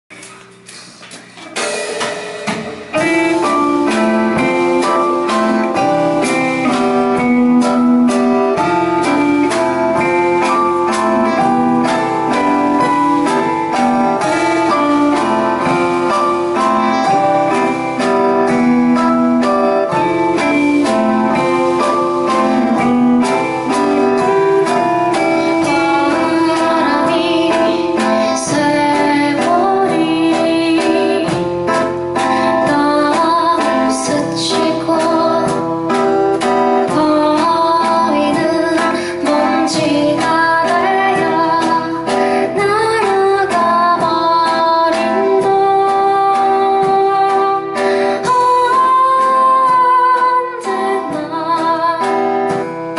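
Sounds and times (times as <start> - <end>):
band playing soft rock: 0.1 - 52.9.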